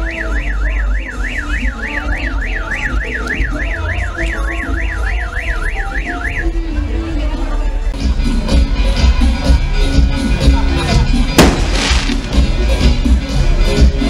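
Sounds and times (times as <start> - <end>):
music with heavy bass: 0.0 - 14.0.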